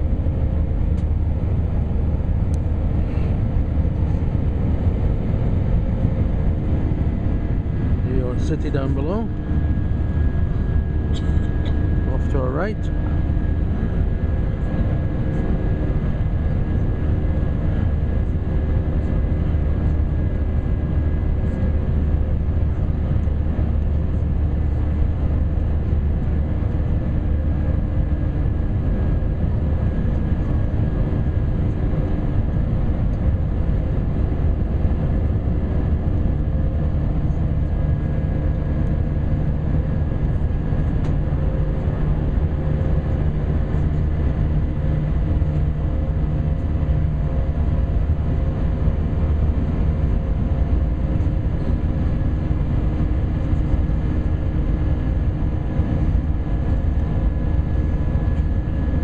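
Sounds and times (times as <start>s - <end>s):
aircraft cabin engine drone: 0.0s - 59.0s
low hum: 0.0s - 59.0s.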